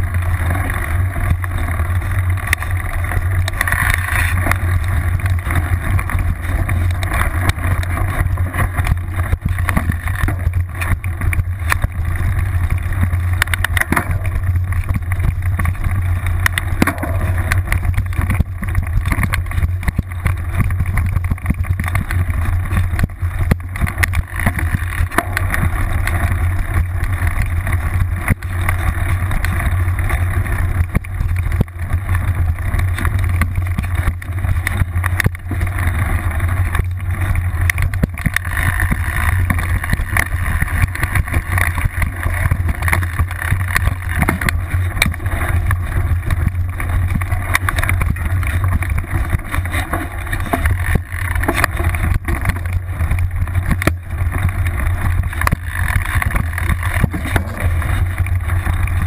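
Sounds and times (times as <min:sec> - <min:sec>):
bike rumbling on dirt trail: 0:00.0 - 0:59.0
wheel knocking over bumps: 0:00.0 - 0:59.0.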